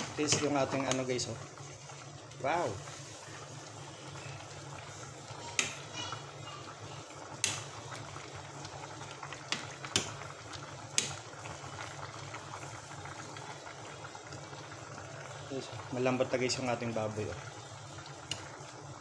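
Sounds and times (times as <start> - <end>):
broth bubbling in a pot: 0.0 - 19.0.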